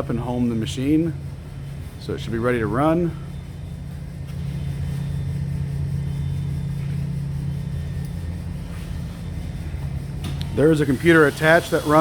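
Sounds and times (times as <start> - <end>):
shop machinery hum: 0.0 - 12.0.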